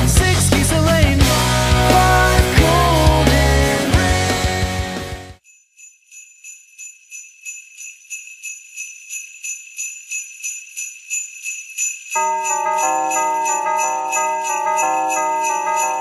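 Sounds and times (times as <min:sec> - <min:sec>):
sleigh bells shaken: 0:00.0 - 0:16.0.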